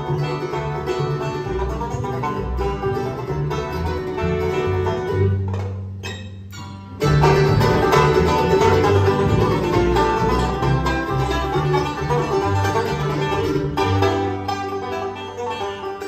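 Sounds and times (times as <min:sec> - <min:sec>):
banjo picking: 0:00.0 - 0:16.0
bass line: 0:00.0 - 0:16.0
guitar: 0:00.0 - 0:16.0.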